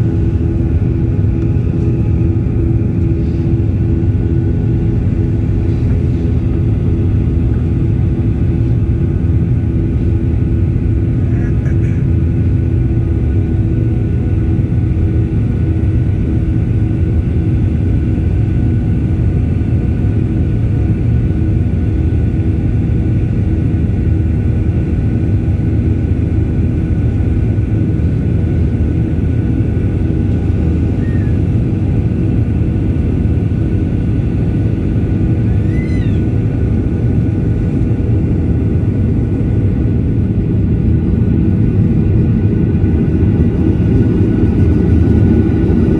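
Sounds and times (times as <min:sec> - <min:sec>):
airliner engines rumbling: 0:00.0 - 0:45.9.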